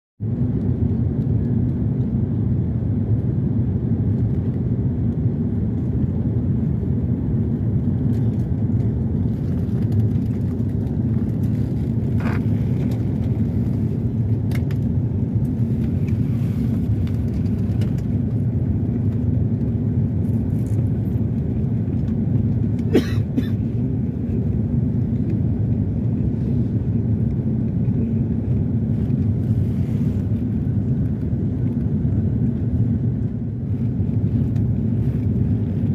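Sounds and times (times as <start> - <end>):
airliner engine and airflow rumble: 0.2 - 35.9.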